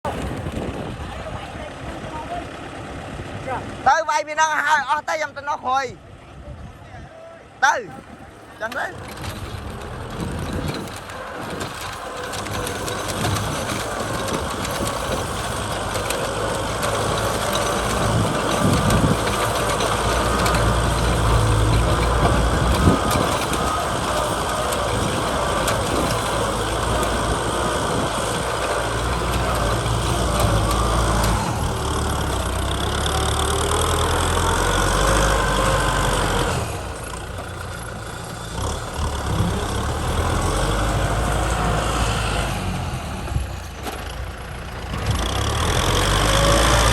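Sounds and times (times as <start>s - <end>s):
tractor diesel engine running: 0.0s - 6.4s, 7.6s - 46.9s.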